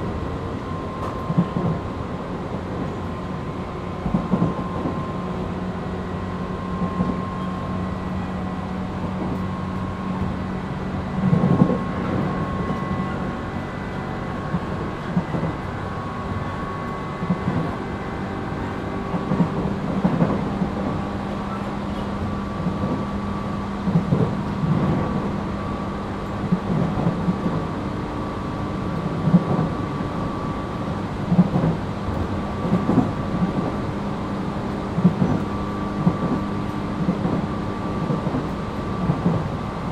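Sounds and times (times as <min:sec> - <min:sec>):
train motor hum and whine: 0:00.0 - 0:39.9
train running noise: 0:00.0 - 0:39.9.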